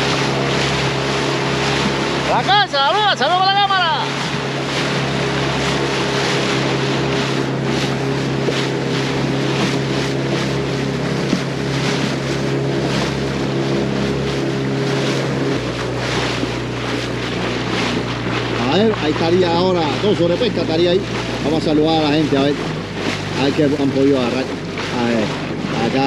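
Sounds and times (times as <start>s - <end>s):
motorboat engine running: 0.0s - 26.0s
water noise: 0.0s - 26.0s
wind: 0.0s - 26.0s.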